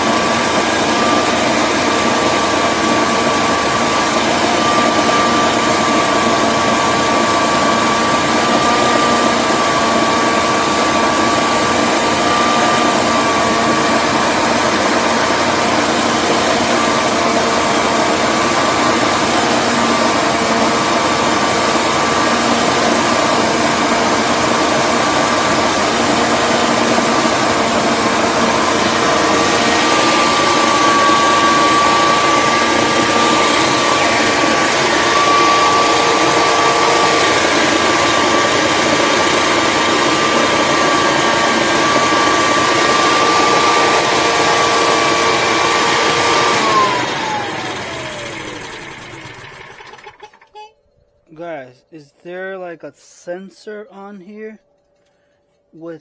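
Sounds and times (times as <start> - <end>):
generator whining: 0.0 - 56.0.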